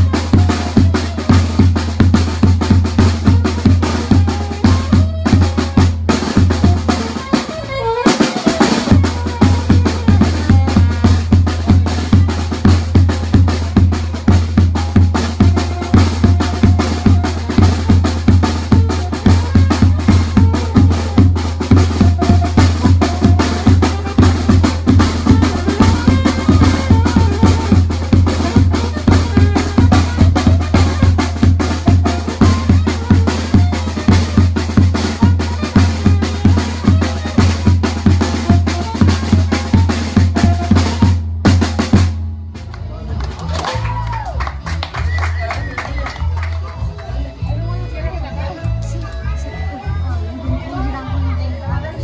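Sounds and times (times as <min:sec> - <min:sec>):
brass and reed horns melody: 0:00.0 - 0:42.6
bass drum and snare beat: 0:00.0 - 0:42.9.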